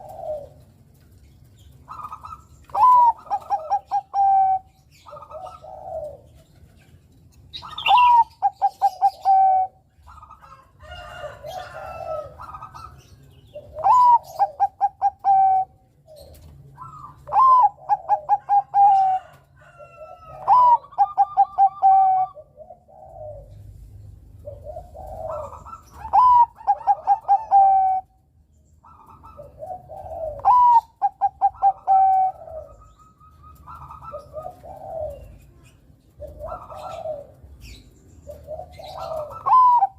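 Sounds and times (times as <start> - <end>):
soft low dove calls: 0.0 - 28.2, 28.8 - 39.9
dove cooing song: 0.0 - 39.9.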